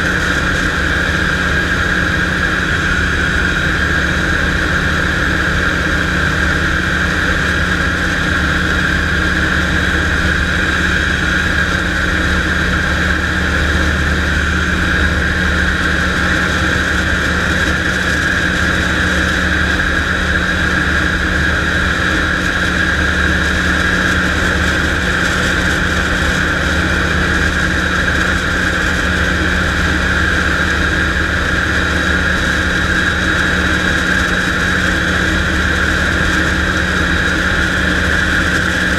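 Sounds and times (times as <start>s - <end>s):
aircraft engine drone in cockpit: 0.0s - 38.9s.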